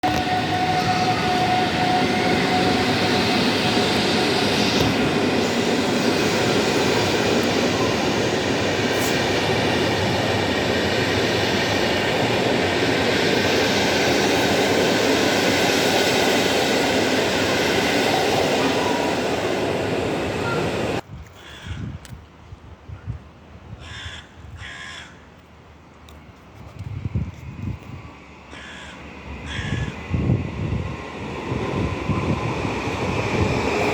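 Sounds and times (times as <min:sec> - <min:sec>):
train wheels rumbling on rails: 0:00.0 - 0:21.0, 0:26.1 - 0:33.9.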